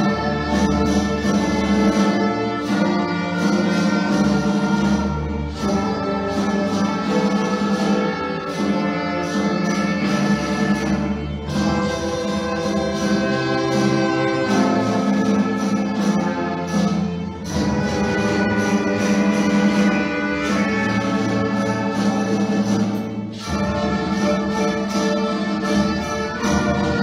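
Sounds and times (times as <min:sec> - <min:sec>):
string orchestra playing chords: 0:00.0 - 0:27.0.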